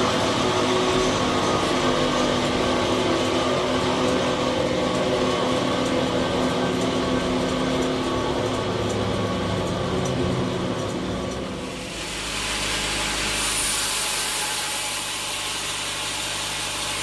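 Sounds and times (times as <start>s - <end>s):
sawmill motor humming: 0.0s - 17.0s.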